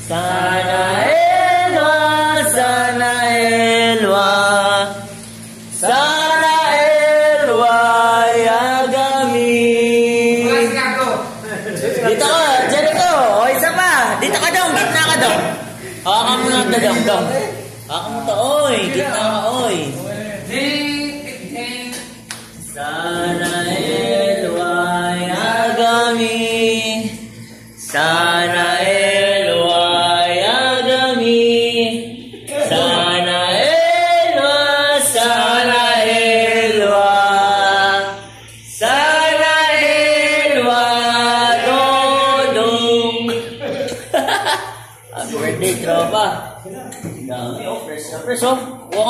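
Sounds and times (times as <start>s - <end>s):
person singing unaccompanied: 0.0s - 10.8s, 14.2s - 43.9s.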